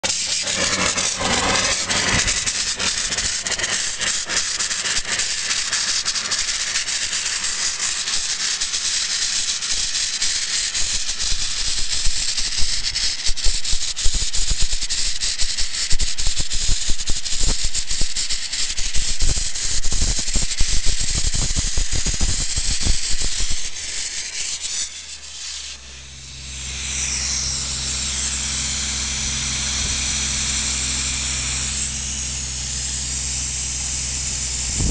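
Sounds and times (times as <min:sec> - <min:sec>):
steady low hum: 0:00.0 - 0:10.2, 0:16.2 - 0:34.9
vapor-blasting gun hissing: 0:00.0 - 0:34.9.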